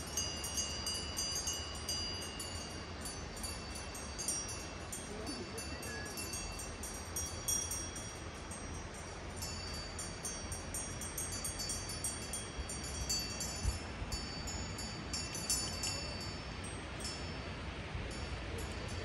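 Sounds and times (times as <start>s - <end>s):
small metal bells tinkling: 0.0s - 19.0s.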